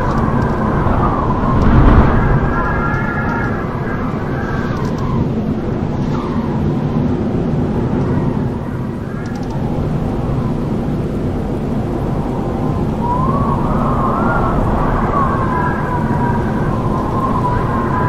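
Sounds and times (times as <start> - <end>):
strong gusting wind: 0.0 - 18.0
whistling wind howl: 0.0 - 18.0.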